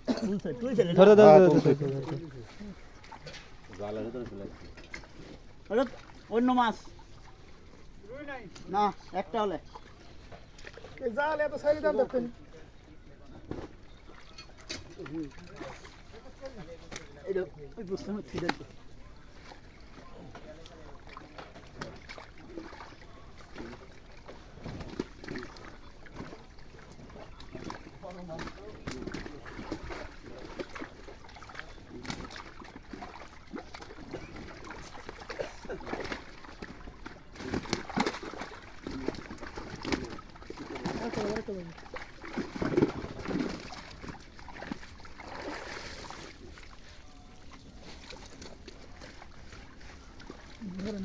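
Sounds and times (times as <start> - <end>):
water sloshing and splashing: 0.0 - 51.0.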